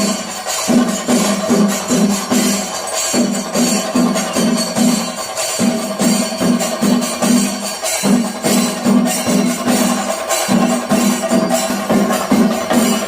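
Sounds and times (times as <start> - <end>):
drums beating: 0.0 - 13.0
jingling cymbals: 0.0 - 13.0.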